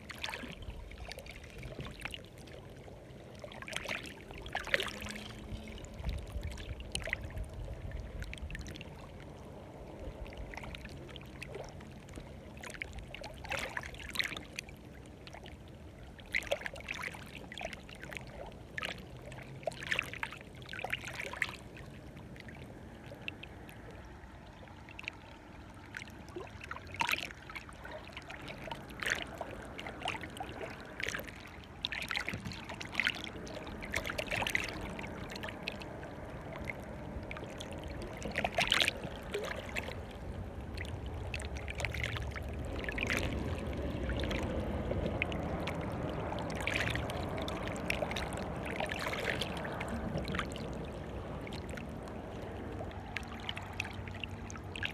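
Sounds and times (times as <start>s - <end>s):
low steady water wash: 0.0s - 54.9s
water splashing at shoreline: 0.0s - 54.9s.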